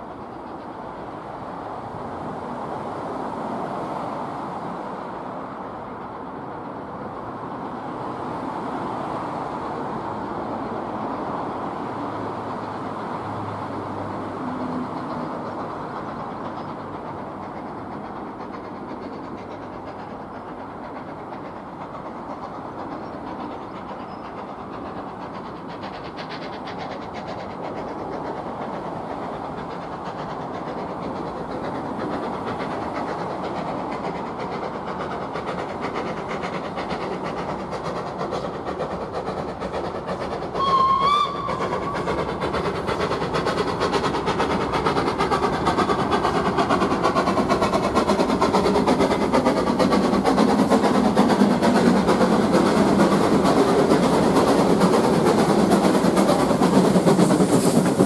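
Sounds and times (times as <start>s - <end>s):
fast clicking of train: 0.0s - 58.0s
steam locomotive approaching: 0.0s - 58.0s.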